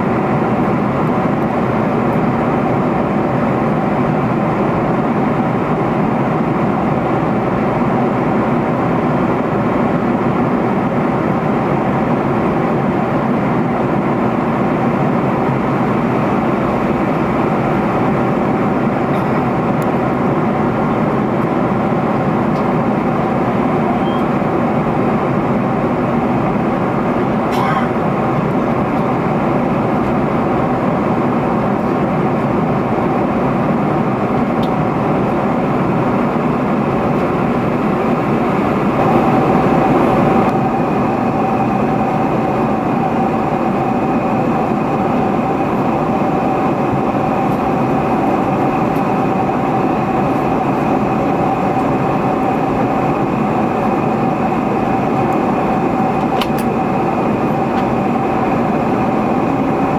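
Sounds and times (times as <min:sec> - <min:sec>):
airplane cabin engine and airflow rush: 0:00.0 - 0:59.9
steady hum: 0:00.0 - 0:59.9.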